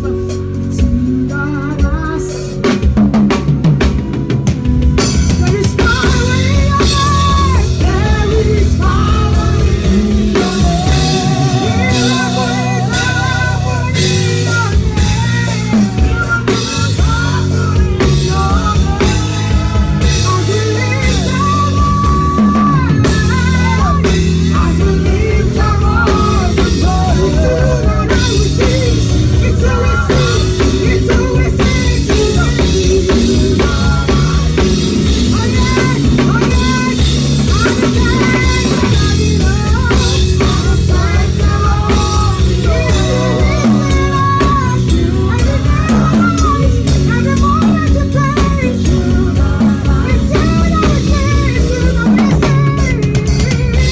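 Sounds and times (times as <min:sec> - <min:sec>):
bass line: 0:00.0 - 0:53.9
drum kit with cymbals: 0:00.0 - 0:53.9
singing: 0:05.4 - 0:53.9.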